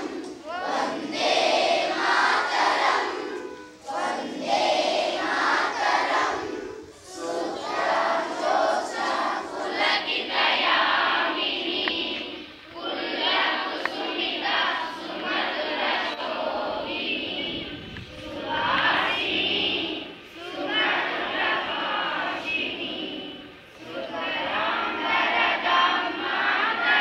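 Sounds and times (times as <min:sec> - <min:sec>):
children chanting in unison: 0:00.0 - 0:27.0.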